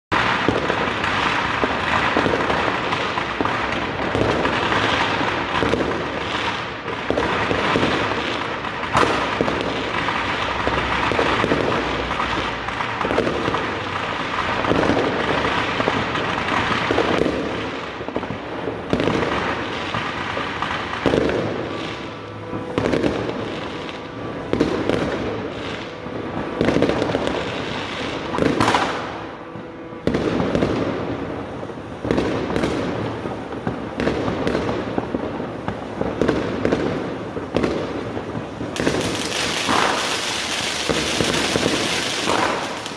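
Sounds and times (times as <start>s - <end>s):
fireworks bangs and crackling: 0.1s - 42.9s.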